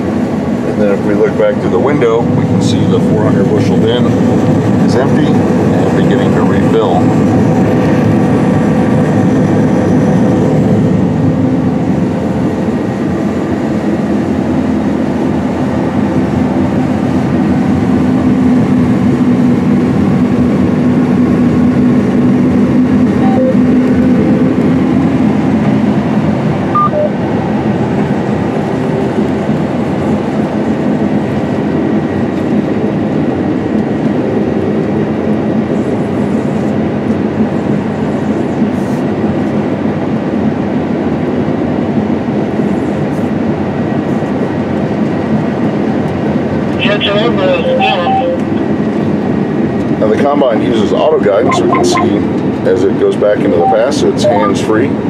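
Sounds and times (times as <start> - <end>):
combine harvester drone in cab: 0.0 - 55.0.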